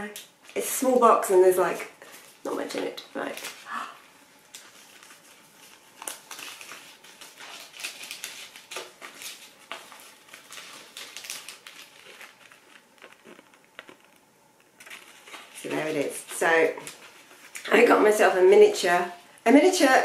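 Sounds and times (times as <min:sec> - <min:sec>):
tissue paper rustling: 0:00.5 - 0:13.5, 0:14.8 - 0:19.2.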